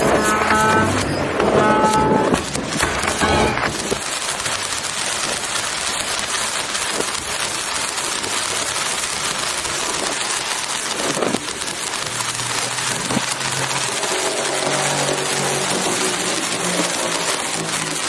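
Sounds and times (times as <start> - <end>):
reversed firework hiss and crackle: 0.0 - 18.0.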